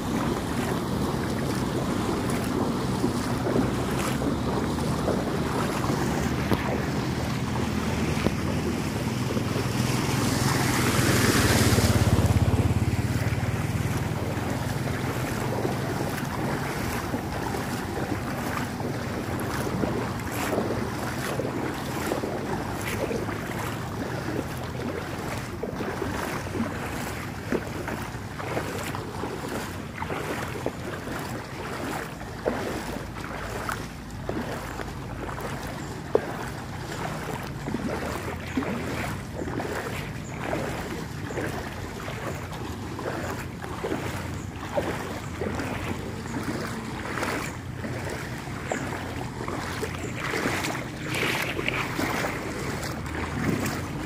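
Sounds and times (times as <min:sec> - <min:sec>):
low engine hum: 0:00.0 - 0:54.0
water splashing and sloshing: 0:00.0 - 0:54.0.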